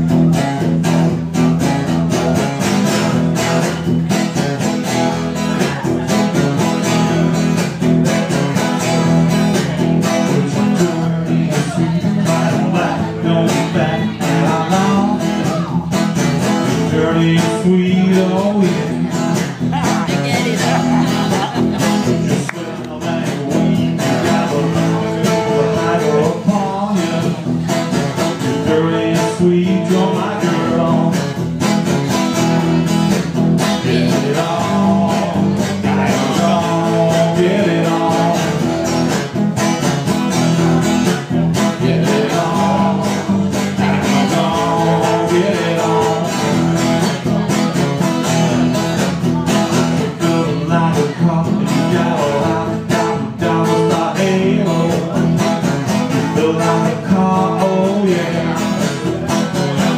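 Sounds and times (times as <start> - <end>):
electric guitar strumming: 0.0 - 59.9
man singing into a microphone: 0.0 - 59.9.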